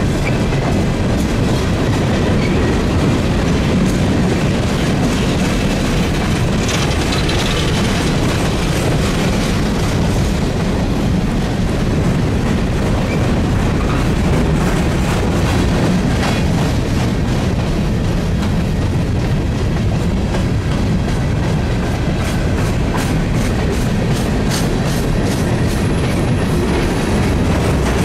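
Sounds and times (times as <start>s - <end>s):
train wheels rumbling on rails: 0.0s - 28.0s
wheels clicking over rail joints: 0.0s - 28.0s.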